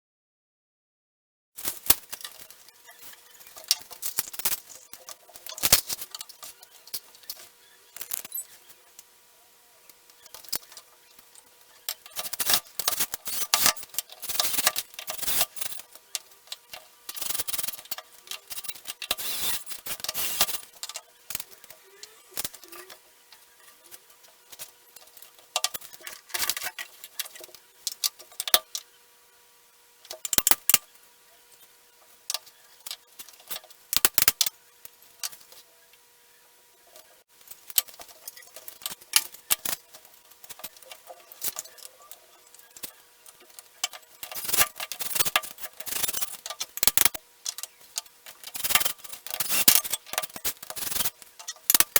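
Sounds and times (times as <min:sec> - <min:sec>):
parts clicking and clattering: 0:01.6 - 0:09.1, 0:09.9 - 0:28.9, 0:30.0 - 0:30.9, 0:31.6 - 0:34.6, 0:35.2 - 0:35.6, 0:37.0 - 0:51.9
faint steady hum: 0:01.7 - 0:51.9.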